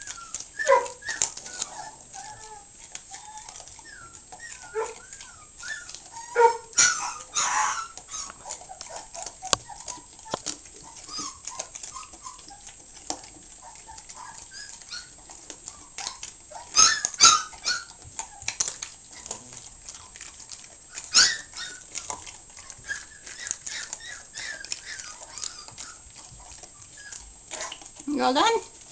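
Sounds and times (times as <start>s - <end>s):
dog whimpering: 0.0s - 28.9s
puppy chewing wetly: 0.0s - 28.9s.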